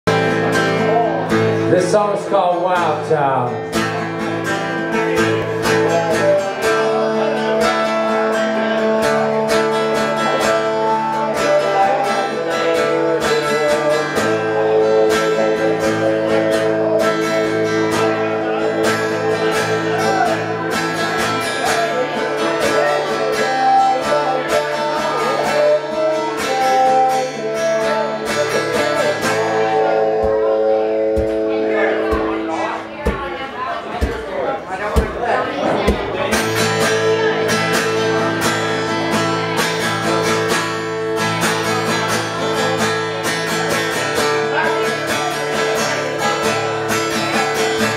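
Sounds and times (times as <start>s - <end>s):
acoustic guitars playing: 0.0s - 47.9s.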